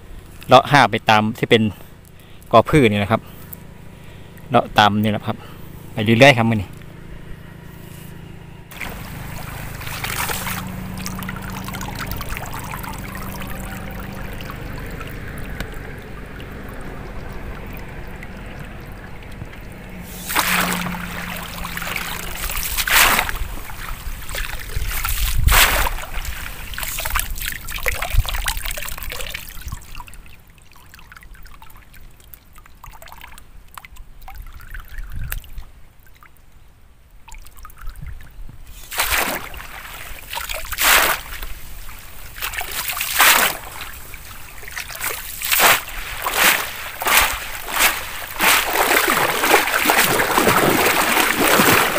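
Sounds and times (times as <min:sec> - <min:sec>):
water sloshing and splashing: 0:08.7 - 0:36.4, 0:37.2 - 0:51.9
water dripping from net: 0:08.7 - 0:36.5, 0:37.2 - 0:38.2, 0:38.8 - 0:51.9.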